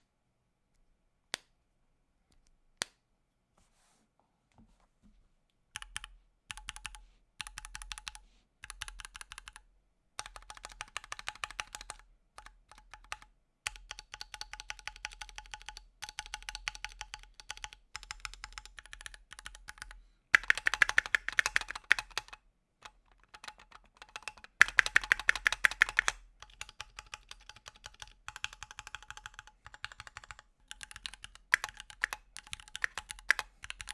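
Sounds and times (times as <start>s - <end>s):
mechanical keyboard typing: 5.8s - 9.6s, 10.2s - 33.9s.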